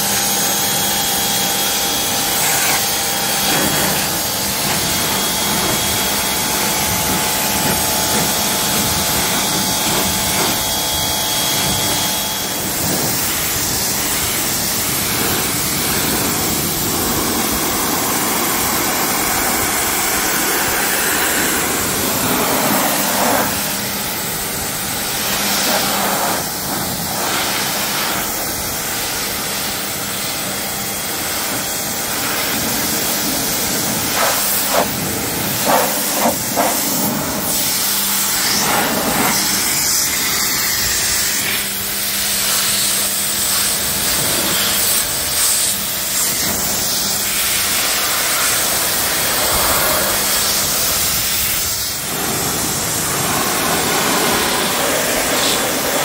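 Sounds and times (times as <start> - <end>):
pressure washer spraying water: 0.0 - 56.0.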